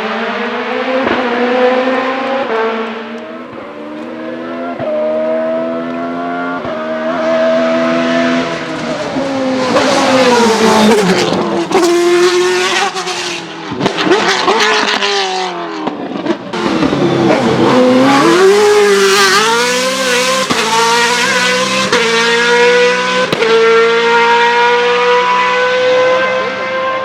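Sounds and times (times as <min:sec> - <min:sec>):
racing car engine accelerating: 0:00.0 - 0:27.0.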